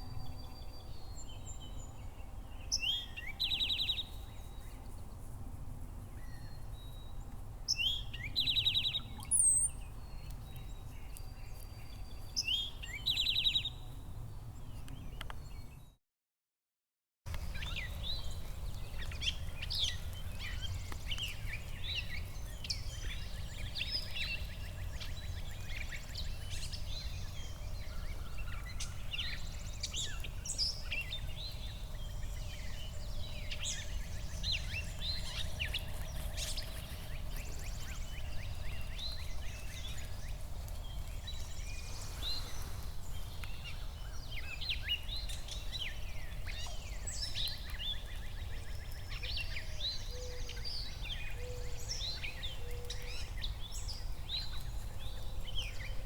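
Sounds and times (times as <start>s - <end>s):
songbirds chirping and trilling: 0.0s - 16.0s, 17.3s - 56.0s.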